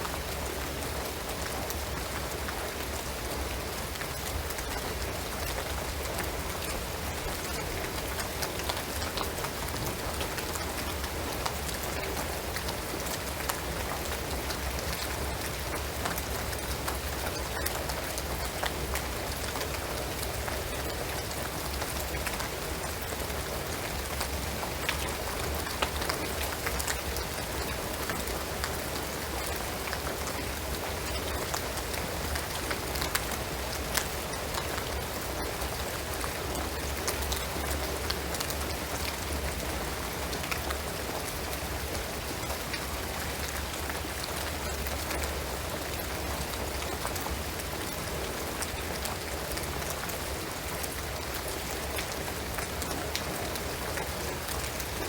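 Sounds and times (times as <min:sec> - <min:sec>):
rain hissing on roof: 0:00.0 - 0:55.0.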